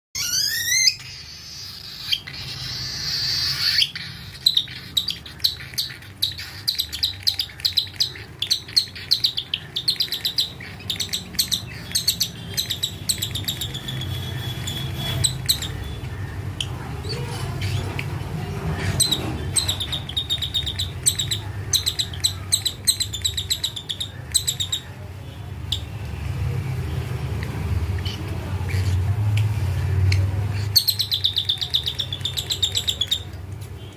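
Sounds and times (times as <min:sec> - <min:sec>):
chick begging chirps: 0:00.2 - 0:25.1, 0:30.1 - 0:33.3.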